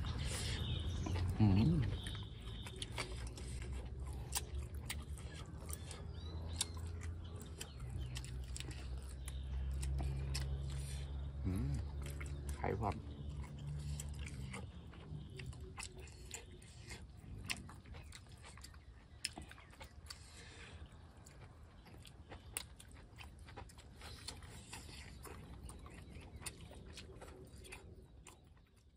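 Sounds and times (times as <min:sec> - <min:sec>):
people chewing and crunching: 0:00.0 - 0:28.9.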